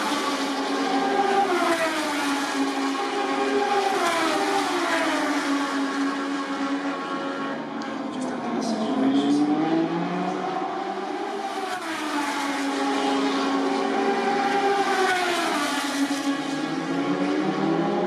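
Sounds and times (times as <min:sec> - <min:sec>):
race motorcycle engines: 0:00.0 - 0:18.0.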